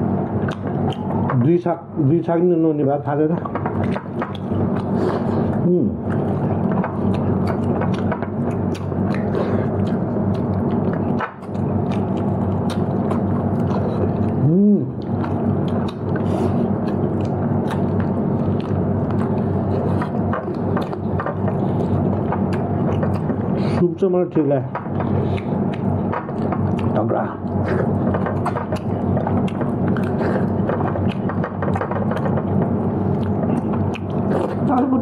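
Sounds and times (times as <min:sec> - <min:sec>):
steady low hum: 0:00.0 - 0:35.0
person chewing and biting: 0:00.3 - 0:01.3, 0:03.5 - 0:23.8, 0:24.9 - 0:34.8.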